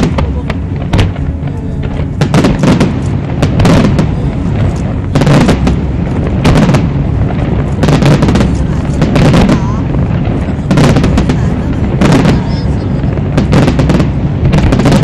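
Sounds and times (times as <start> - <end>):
fireworks bursting and crackling: 0.0 - 15.0
low rumble: 0.0 - 15.0.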